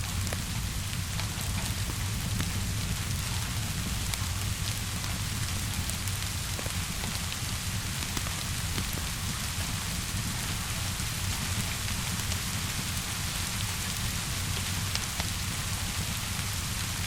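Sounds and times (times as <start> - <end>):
rain hissing on surfaces: 0.0 - 17.0.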